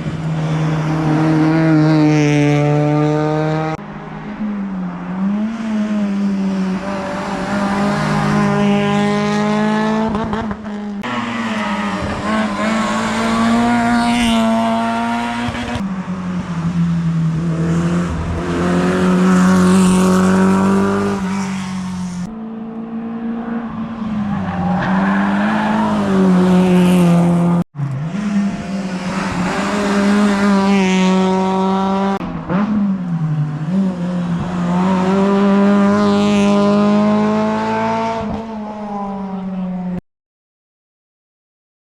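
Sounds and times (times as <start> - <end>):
rally car engines revving hard: 0.0 - 3.8, 5.2 - 15.8, 17.3 - 39.1.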